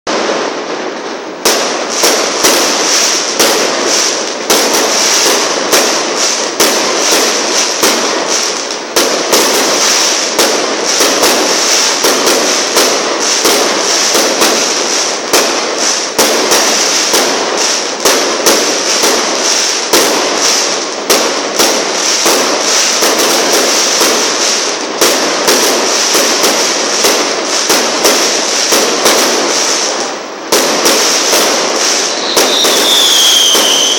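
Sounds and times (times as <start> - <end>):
fireworks crackling: 0.1 - 33.9.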